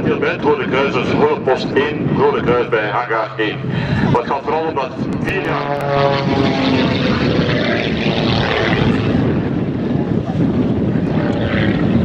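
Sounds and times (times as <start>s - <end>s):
propeller plane engine: 0.0s - 12.0s.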